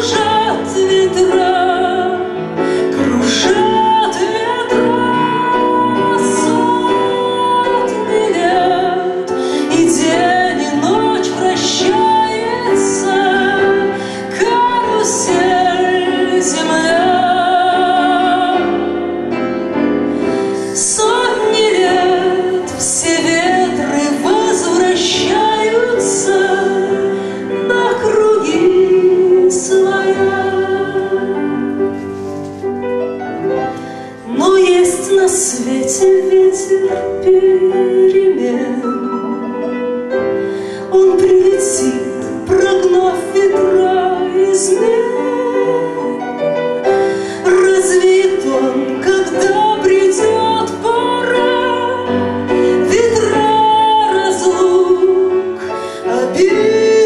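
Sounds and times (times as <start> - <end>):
woman singing with vibrato: 0.0 - 19.0, 20.3 - 32.0, 34.1 - 39.7, 40.8 - 46.4, 47.2 - 57.0
instrumental accompaniment: 0.0 - 57.0.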